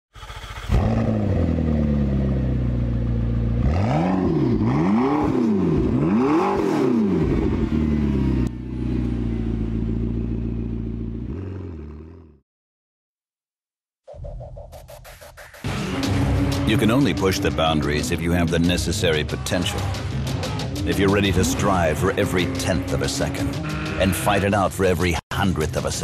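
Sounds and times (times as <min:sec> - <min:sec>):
car engine idling and revving: 0:00.1 - 0:12.4, 0:15.7 - 0:24.4.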